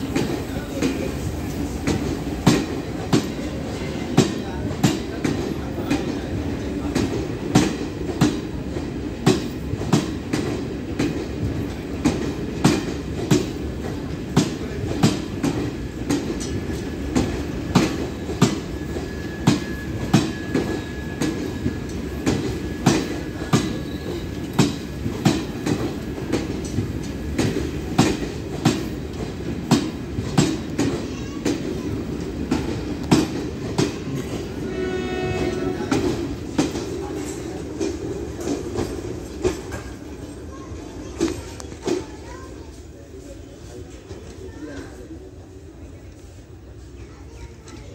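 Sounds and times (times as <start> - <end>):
train wheels clicking over rail joints: 0.0 - 42.6.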